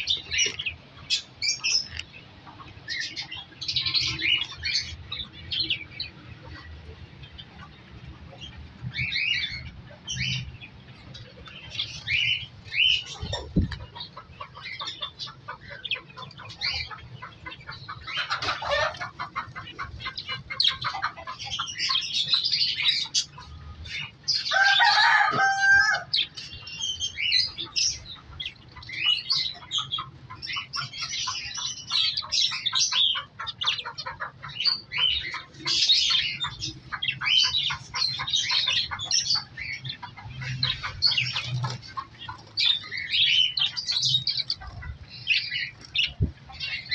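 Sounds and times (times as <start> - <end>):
small birds chirping and chattering: 0.0 - 46.9.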